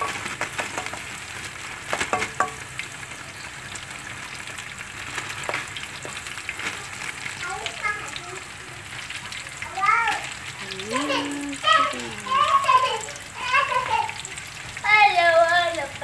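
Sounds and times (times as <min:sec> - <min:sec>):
hot oil sizzling and crackling: 0:00.0 - 0:16.0.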